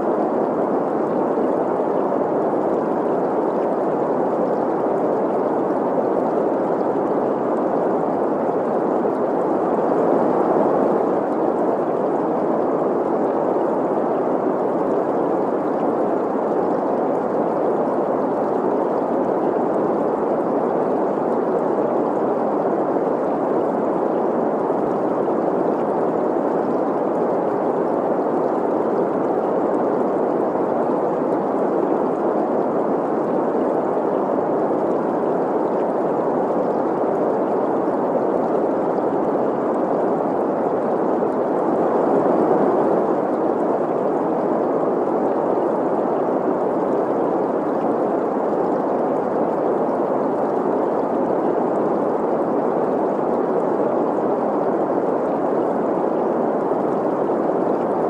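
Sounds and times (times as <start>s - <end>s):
babbling stream: 0.0s - 58.0s.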